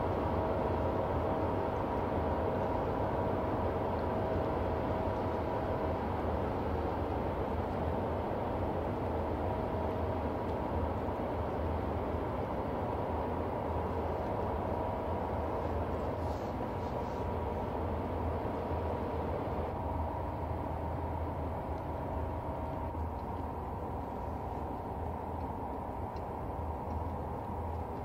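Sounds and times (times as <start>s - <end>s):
faint machinery whine: 0.0s - 28.0s
ship diesel engine rumble: 0.0s - 28.0s.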